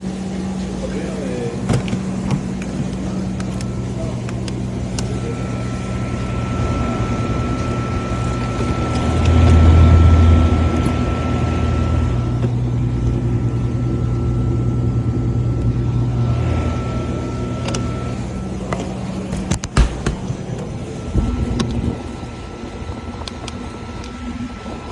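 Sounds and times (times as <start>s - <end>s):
steady machine hum: 0.0s - 24.9s
thin high whine: 0.0s - 24.9s.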